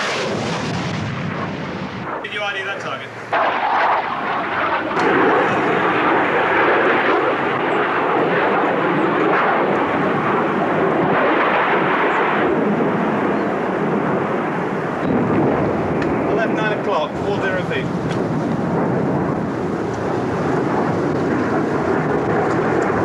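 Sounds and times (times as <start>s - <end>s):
military jet engine noise: 0.0s - 23.0s.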